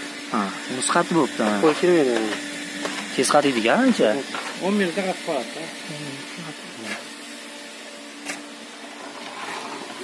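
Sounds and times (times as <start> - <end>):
machine motor humming and whining: 0.0 - 10.0.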